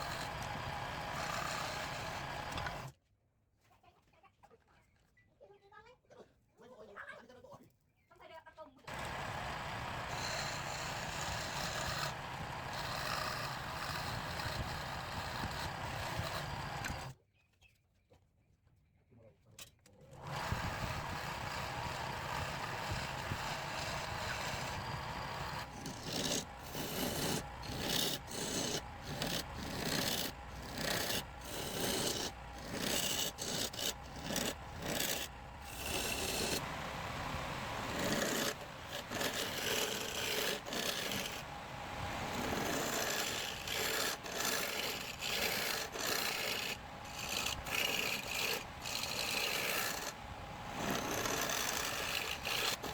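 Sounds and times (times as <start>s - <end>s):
hand tool scraping wood: 0.0s - 2.9s, 8.9s - 17.1s, 20.2s - 52.9s.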